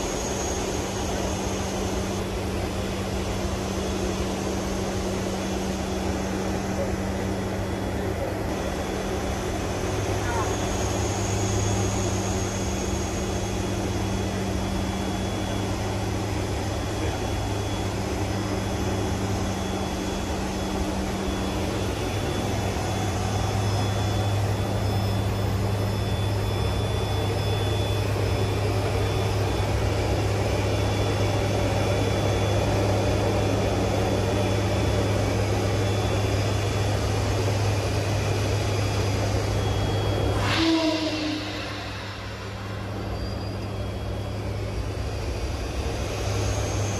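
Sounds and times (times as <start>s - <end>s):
turboprop engines droning: 0.0s - 46.9s.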